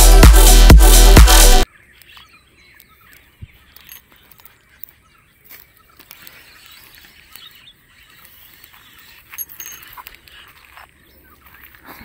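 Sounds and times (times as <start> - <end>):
birds chirping: 1.6 - 12.0
insects chirping: 2.0 - 11.9.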